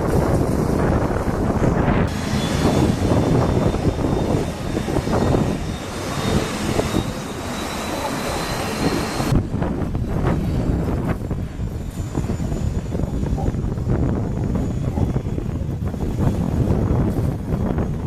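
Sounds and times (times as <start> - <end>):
jet engines rumbling: 0.0 - 18.0
faint high jet whine: 1.8 - 18.0.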